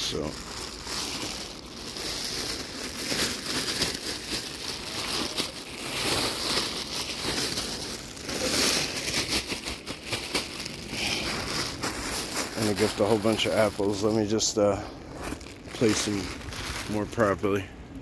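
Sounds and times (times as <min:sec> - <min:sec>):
rustling and crinkling: 0:00.0 - 0:17.7.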